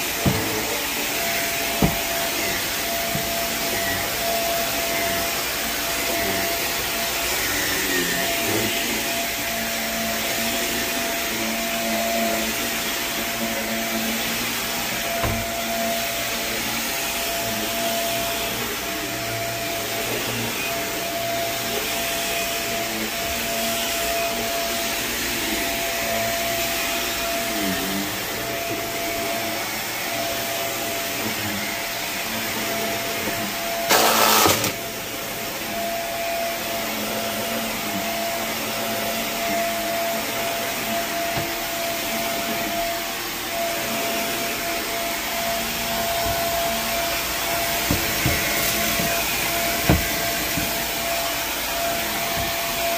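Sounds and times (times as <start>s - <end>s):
vacuum motor whining: 0.0s - 52.9s.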